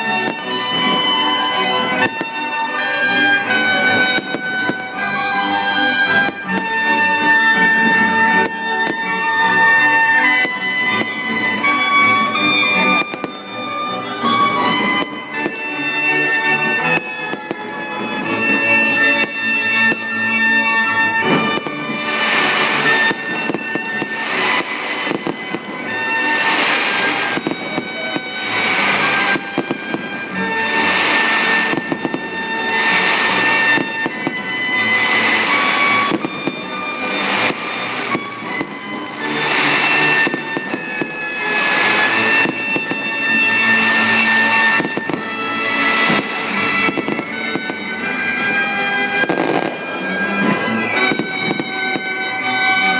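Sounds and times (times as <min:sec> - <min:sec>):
orchestral music with strings and brass: 0:00.0 - 0:52.9
sharp firework bangs: 0:03.7 - 0:11.7, 0:12.4 - 0:13.6, 0:14.6 - 0:20.6, 0:21.2 - 0:52.9.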